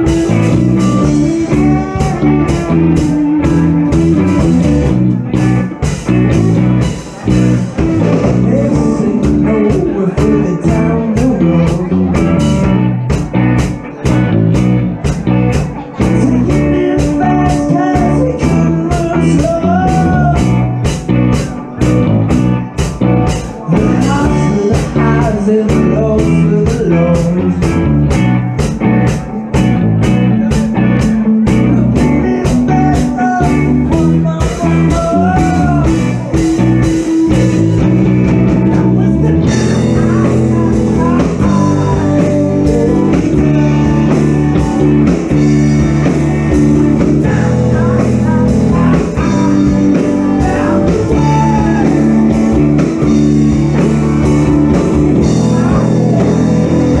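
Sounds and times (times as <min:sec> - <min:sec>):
drum kit beat: 0:00.0 - 0:57.0
electric guitars: 0:00.0 - 0:57.0.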